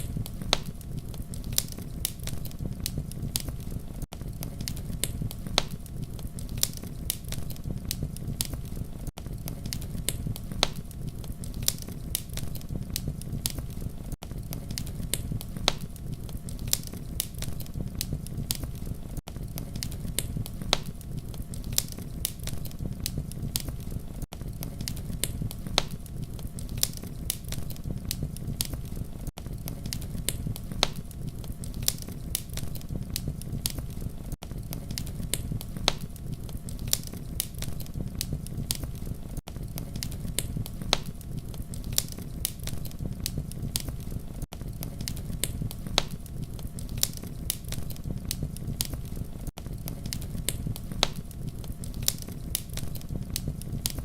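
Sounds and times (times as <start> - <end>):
campfire crackling: 0.0 - 54.0
fire pops and snaps: 0.0 - 54.0.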